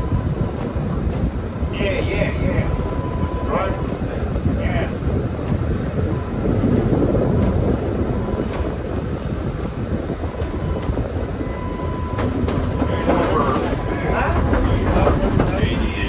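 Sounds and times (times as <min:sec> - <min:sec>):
streetcar wheels rumbling: 0:00.0 - 0:16.0.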